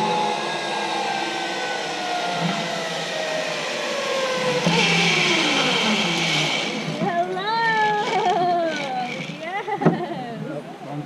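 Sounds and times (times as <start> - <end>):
zipline pulleys whining on cable: 0.0 - 10.6.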